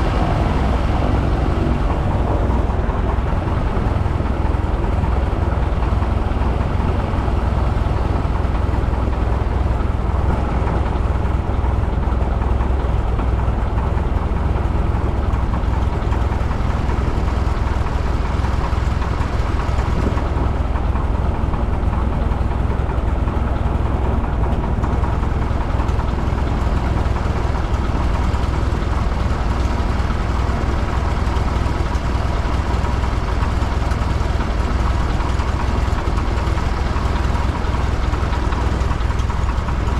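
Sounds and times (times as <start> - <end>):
airplane engine droning: 0.0 - 39.9.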